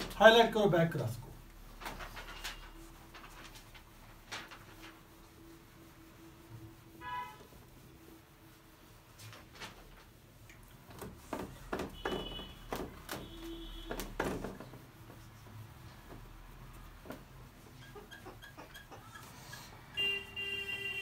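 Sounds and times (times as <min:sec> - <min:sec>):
rubbing strokes on whiteboard: 0:00.0 - 0:21.0.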